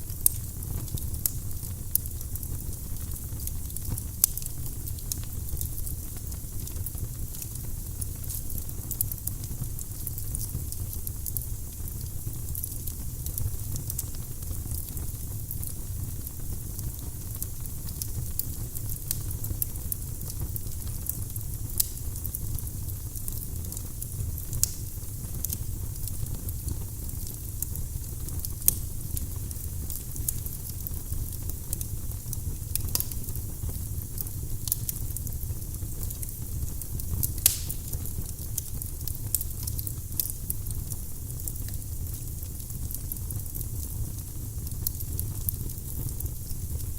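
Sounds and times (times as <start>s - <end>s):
fire rumbling: 0.0s - 46.9s
firewood popping and crackling: 0.0s - 46.9s.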